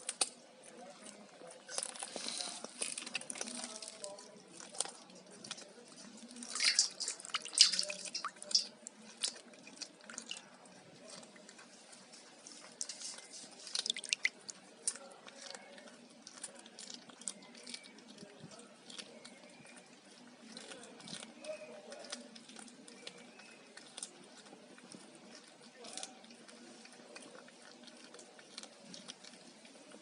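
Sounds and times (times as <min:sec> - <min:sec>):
cat chewing with mouth clicks: 0:00.0 - 0:30.0.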